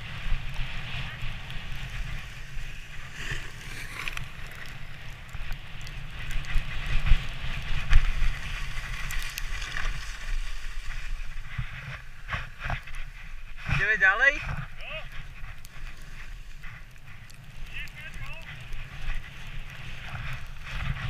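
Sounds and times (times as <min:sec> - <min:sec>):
sledge runners scraping snow: 0:00.0 - 0:21.0
wind rumbling on microphone: 0:00.0 - 0:21.0.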